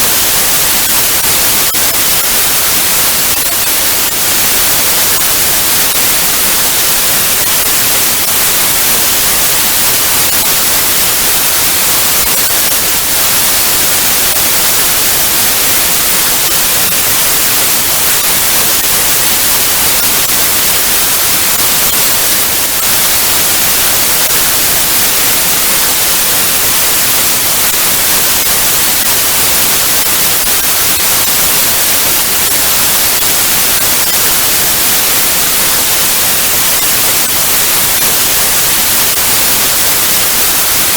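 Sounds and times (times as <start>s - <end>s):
tv static hiss: 0.0s - 40.9s.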